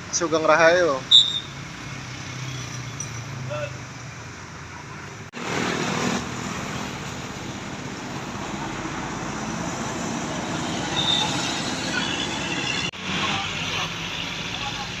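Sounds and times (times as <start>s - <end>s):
heavy road traffic: 0.0s - 15.0s
bus passing close: 0.8s - 15.0s.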